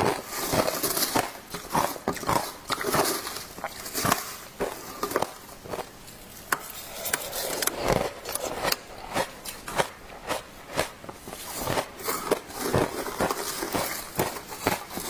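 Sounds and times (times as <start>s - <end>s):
frozen ice crunching and cracking: 0.0s - 15.0s.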